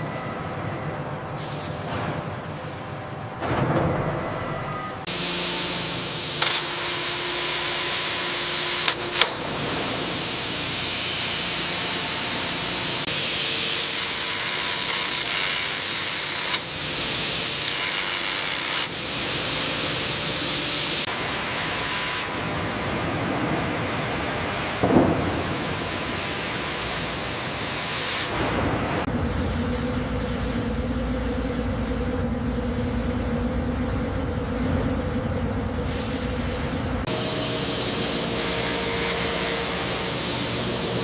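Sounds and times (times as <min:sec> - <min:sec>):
sawmill machinery running: 0:05.0 - 0:41.0.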